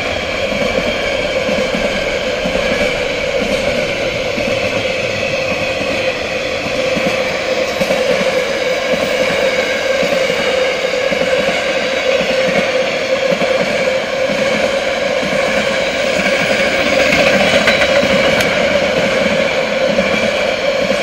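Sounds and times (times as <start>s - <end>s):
freight train wheels rumbling on track: 0.0s - 21.0s.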